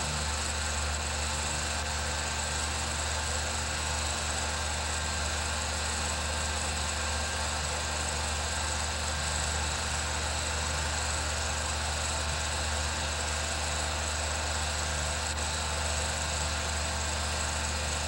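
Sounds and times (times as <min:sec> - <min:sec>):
film projector running: 0:00.0 - 0:18.0.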